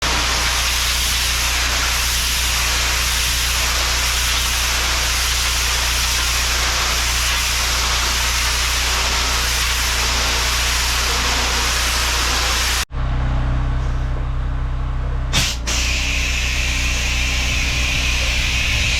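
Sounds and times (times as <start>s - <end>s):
pressure washer water jet hiss: 0.0s - 12.9s, 15.4s - 18.9s
engine and pump hum: 0.0s - 18.9s.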